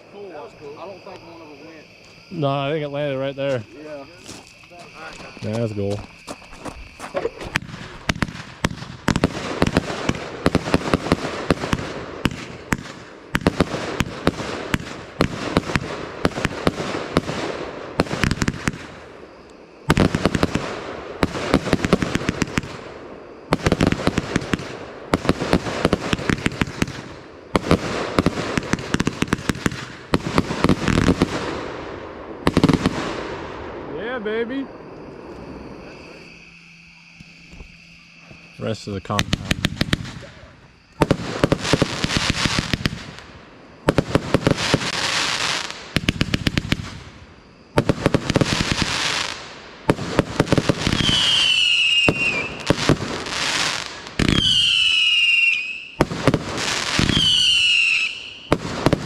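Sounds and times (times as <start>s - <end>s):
fireworks banging and crackling: 3.4s - 34.6s, 37.2s - 59.0s.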